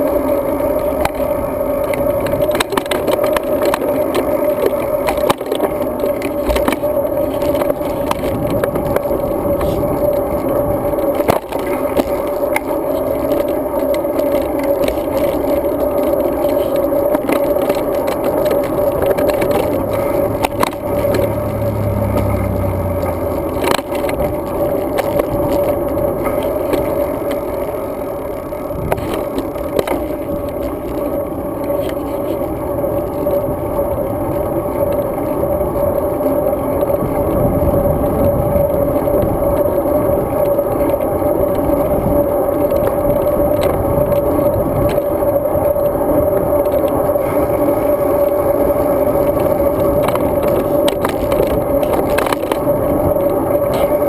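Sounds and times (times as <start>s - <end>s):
bicycle tyre and wind noise: 0.0s - 54.0s
bike knocking and rattling over bumps: 0.0s - 54.0s.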